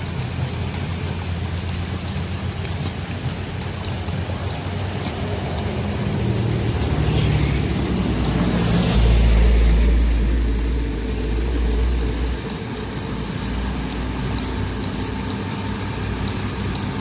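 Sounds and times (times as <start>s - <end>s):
heavy machinery engine rumble: 0.0s - 17.0s.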